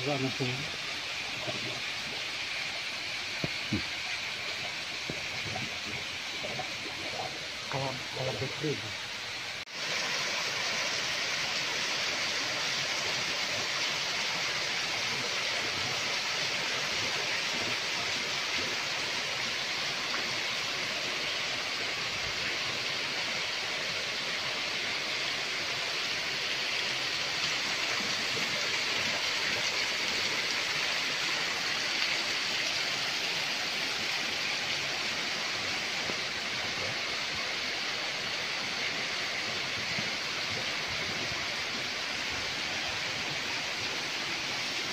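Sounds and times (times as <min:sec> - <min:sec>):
small waterfall cascading: 0:00.0 - 0:44.9.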